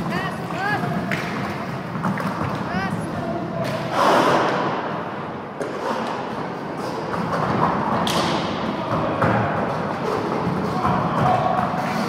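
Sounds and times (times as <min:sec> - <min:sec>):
hockey sticks and ball clacking: 0:00.0 - 0:12.0.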